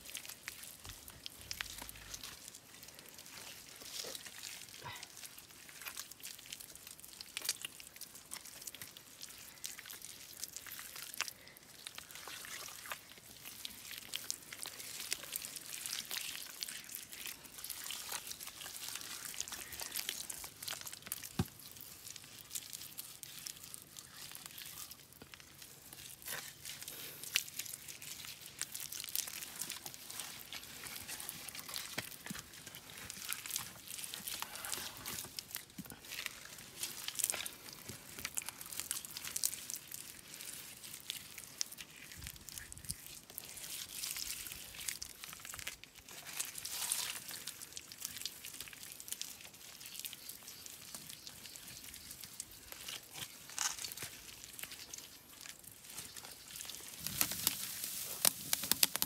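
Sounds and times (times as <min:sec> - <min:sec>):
hands squelching wet clay: 0:00.0 - 0:59.0.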